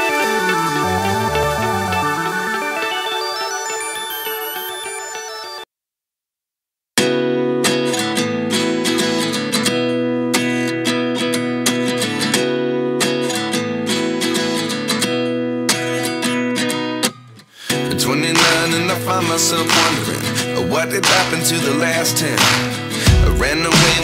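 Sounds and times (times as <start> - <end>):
acoustic guitar strumming chords: 0.0 - 3.7, 7.0 - 24.0.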